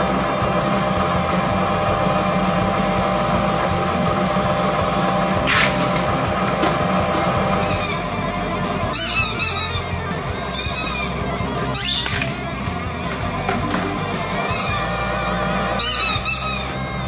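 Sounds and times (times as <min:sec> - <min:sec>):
electric shredder humming and whining: 0:00.0 - 0:17.0.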